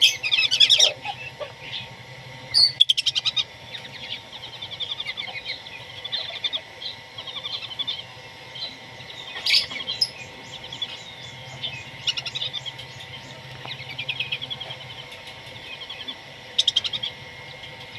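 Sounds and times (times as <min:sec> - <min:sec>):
birds chirping in trills: 0:00.0 - 0:17.9
faint steady hum: 0:00.0 - 0:17.9.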